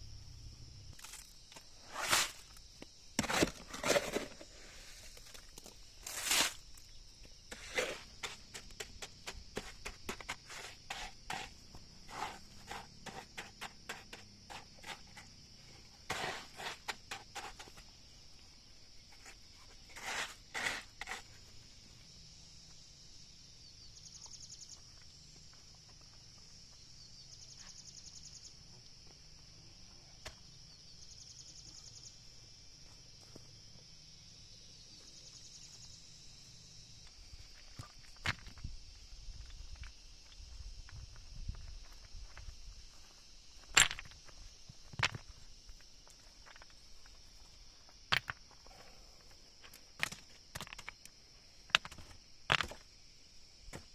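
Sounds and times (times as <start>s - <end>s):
pulsing insect song: 0.0s - 53.9s.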